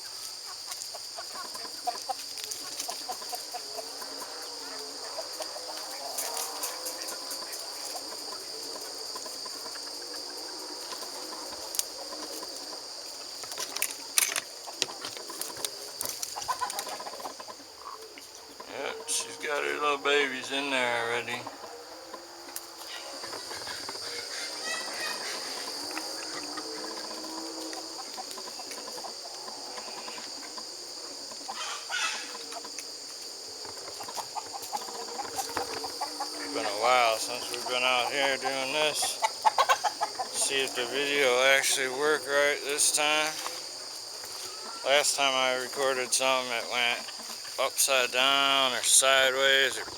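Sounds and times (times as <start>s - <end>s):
chickens clucking: 0.0s - 49.9s
crickets droning: 0.0s - 49.9s.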